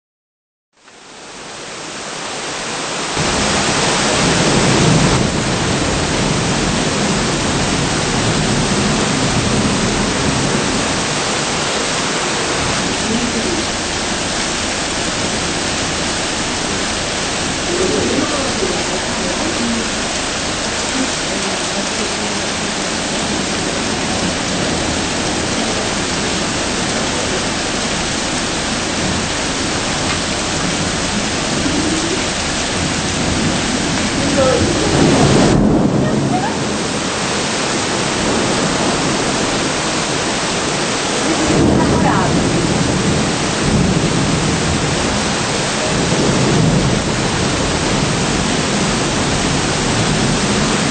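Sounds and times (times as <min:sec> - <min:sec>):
heavy rain: 0:00.8 - 0:50.9.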